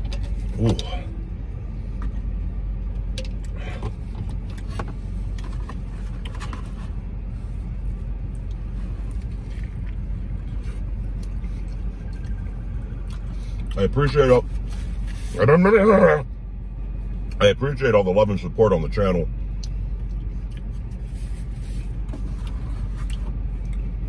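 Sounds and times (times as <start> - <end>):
car idling hum: 0.0 - 24.0.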